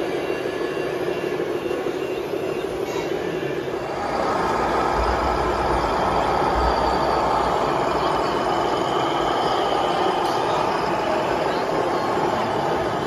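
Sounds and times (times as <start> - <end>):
simulated diesel truck engine: 0.0 - 13.0.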